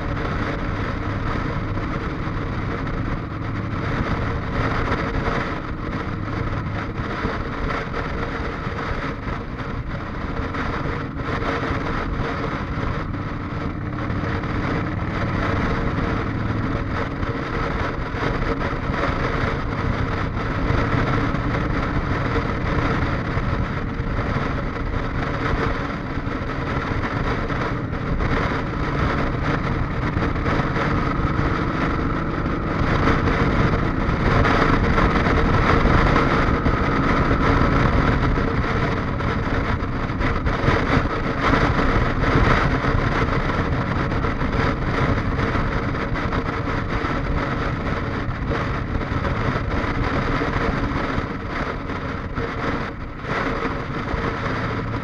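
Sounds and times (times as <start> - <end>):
motorcycle engine drone: 0.0 - 55.0
wind and road noise: 0.0 - 55.0.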